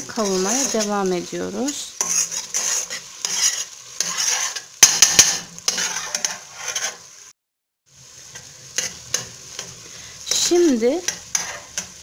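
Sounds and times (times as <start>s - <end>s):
spoon stirring vegetables sauteing: 0.0s - 7.3s, 7.9s - 12.0s.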